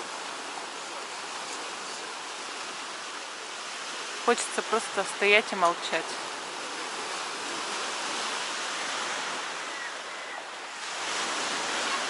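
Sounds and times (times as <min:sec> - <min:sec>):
waves washing onto shore: 0:00.0 - 0:12.0.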